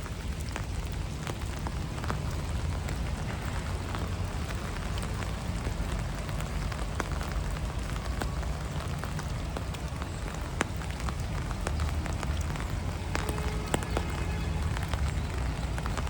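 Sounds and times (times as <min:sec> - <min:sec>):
low steady rain rumble: 0:00.0 - 0:16.0
rain drops ticking: 0:00.0 - 0:16.0.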